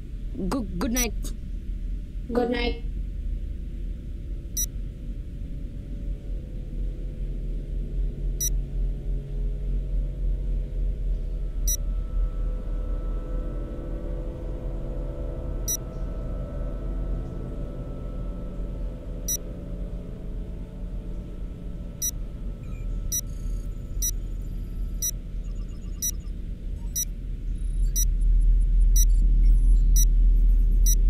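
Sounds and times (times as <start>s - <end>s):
low electronic drone: 0.0s - 31.0s.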